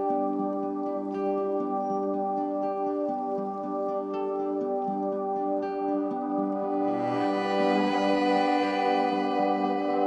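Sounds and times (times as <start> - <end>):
calm new-age music: 0.0 - 10.0.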